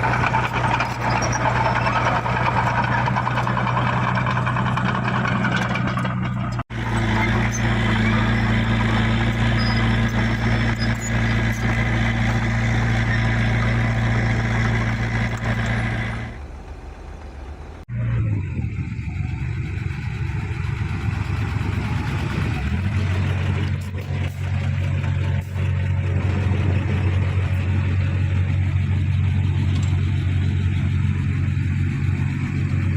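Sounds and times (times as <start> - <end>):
heavy diesel engine under load: 0.0 - 32.9.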